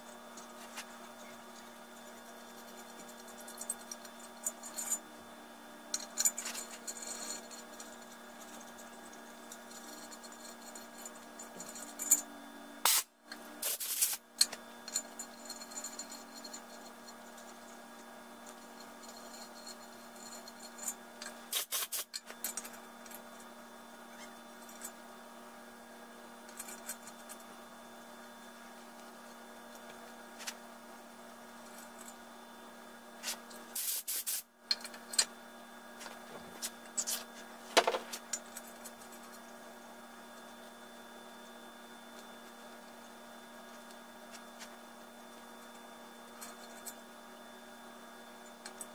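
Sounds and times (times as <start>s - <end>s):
steady hum: 0.0s - 48.9s.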